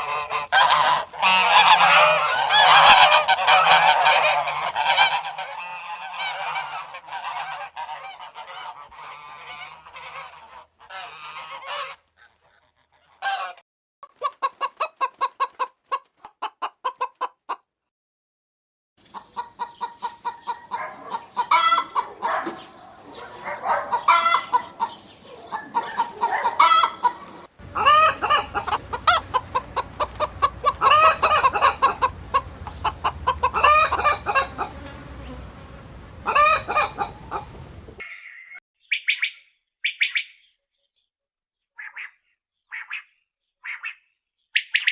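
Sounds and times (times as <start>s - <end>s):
chickens clucking: 0.0s - 17.7s, 19.0s - 38.1s.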